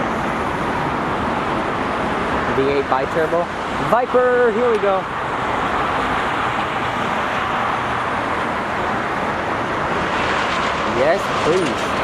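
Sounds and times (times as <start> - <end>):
freeway traffic roar: 0.0 - 12.0.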